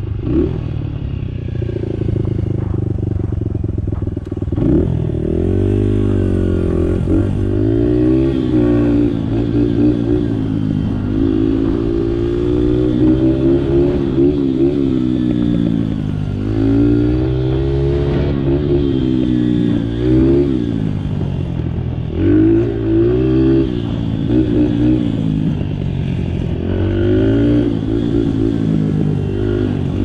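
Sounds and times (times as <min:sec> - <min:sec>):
dirt bike engine revving: 0:01.5 - 0:30.0.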